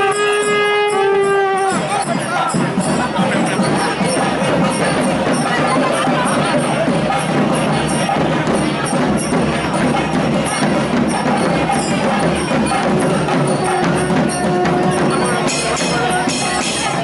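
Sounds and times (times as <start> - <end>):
clattering percussion music: 0.0 - 17.0.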